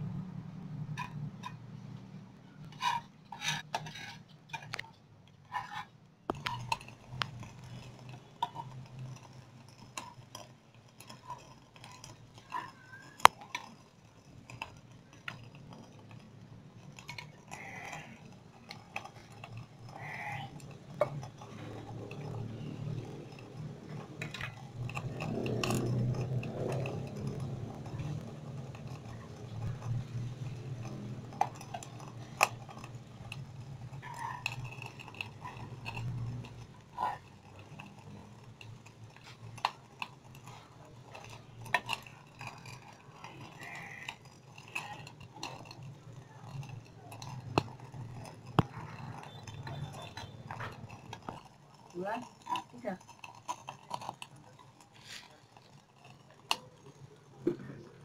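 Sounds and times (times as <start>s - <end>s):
metal spoon scraping frying pan: 2.6s - 4.8s, 5.5s - 56.4s.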